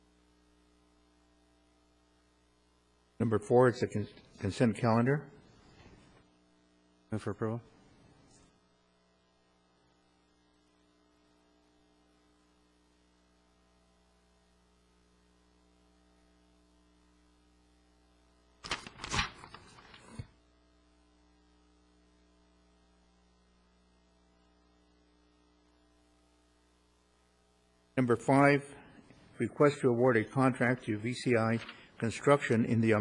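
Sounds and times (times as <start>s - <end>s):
low electrical mains hum: 0.0s - 33.0s.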